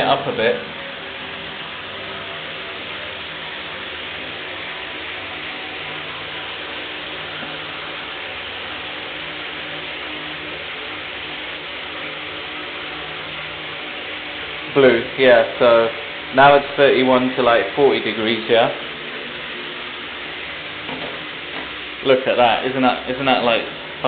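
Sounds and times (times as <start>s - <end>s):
shower water spraying: 0.0s - 24.0s.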